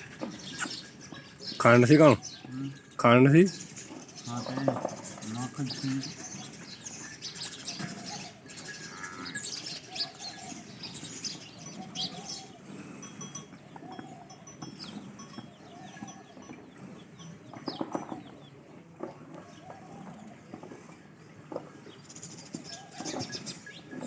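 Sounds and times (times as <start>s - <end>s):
animal bells clinking: 0.0s - 24.0s.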